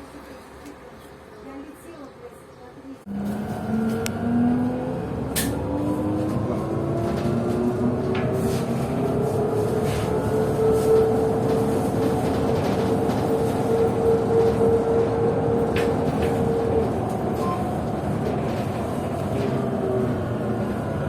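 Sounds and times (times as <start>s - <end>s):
trolleybus running: 0.0s - 21.0s.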